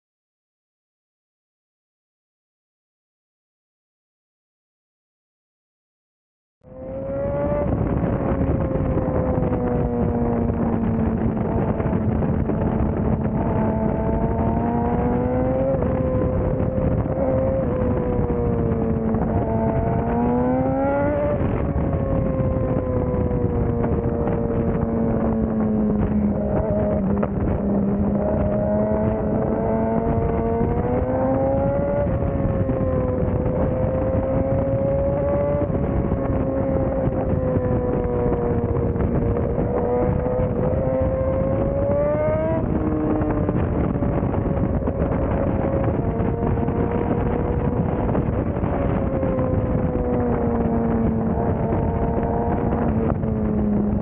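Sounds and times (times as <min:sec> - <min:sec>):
motorcycle engine revving: 0:06.6 - 0:54.0.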